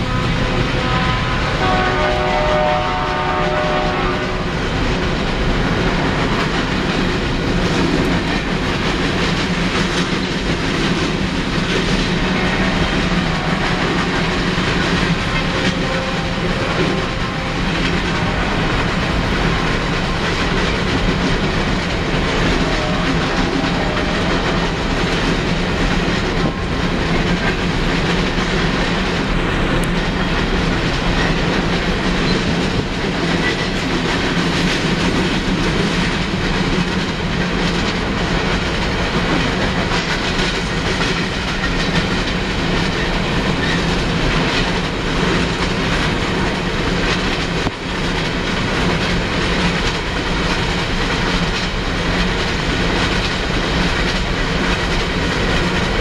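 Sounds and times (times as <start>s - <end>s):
train wheels rumbling and clicking: 0.0s - 56.0s.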